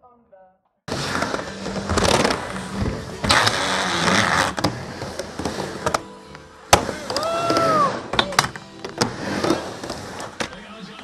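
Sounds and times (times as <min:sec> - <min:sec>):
skateboard wheels rolling on wood: 0:00.9 - 0:11.0.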